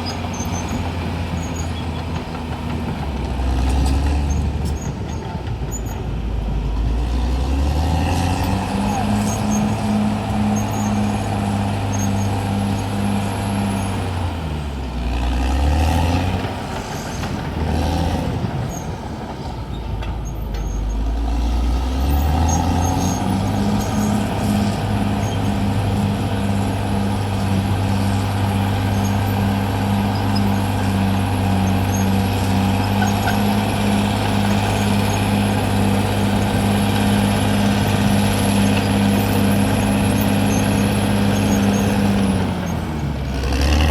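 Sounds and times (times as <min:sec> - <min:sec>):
bulldozer diesel engine revving: 0:00.0 - 0:43.9.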